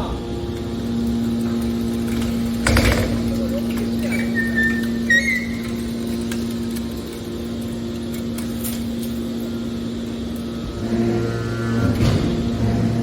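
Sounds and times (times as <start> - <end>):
hydraulic power unit humming: 0.0 - 13.0.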